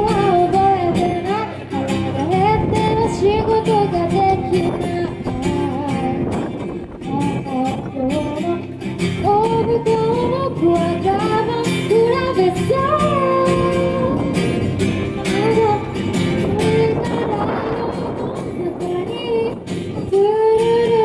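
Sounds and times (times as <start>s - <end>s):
strummed acoustic guitar: 0.0s - 21.0s
woman singing: 0.0s - 21.0s.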